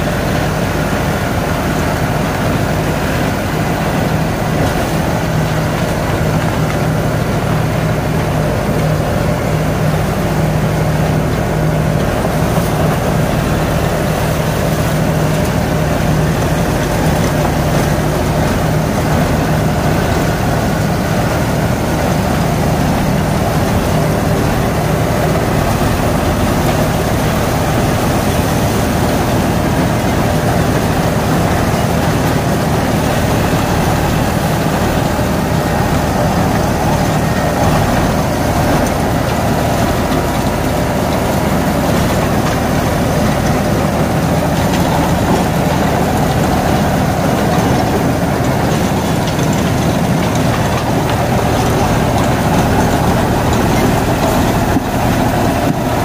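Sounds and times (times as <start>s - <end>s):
rotavator churning soil: 0.0s - 56.0s
tractor diesel engine running: 0.0s - 56.0s.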